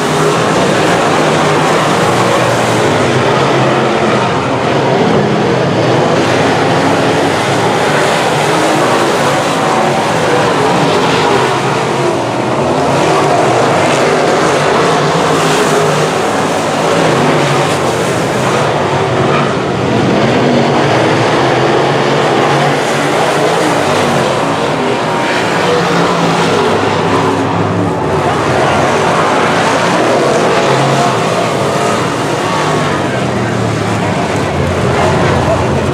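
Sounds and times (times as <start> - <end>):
race car engines: 0.0 - 35.9.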